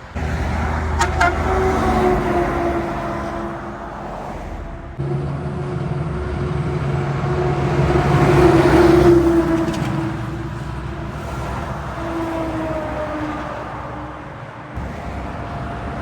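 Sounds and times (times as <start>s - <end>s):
heavy vehicle engine passing: 0.0s - 14.0s.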